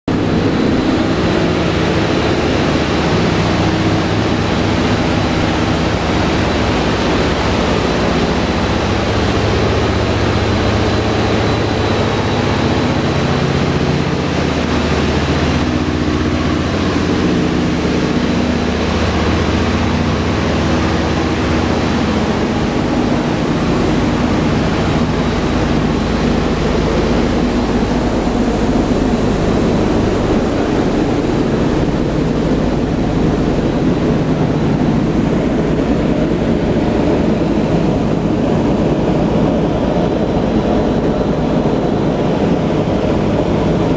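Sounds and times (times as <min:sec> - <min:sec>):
aircraft engines droning: 0:00.1 - 0:43.9
rush of airflow: 0:00.1 - 0:43.9.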